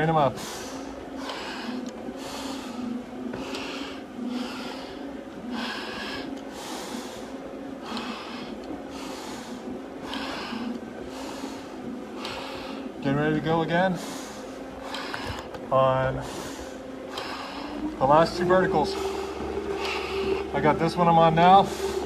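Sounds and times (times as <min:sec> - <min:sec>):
heavy breathing in a mask: 0:00.0 - 0:20.6, 0:21.2 - 0:22.0
steady low hum: 0:00.0 - 0:22.0.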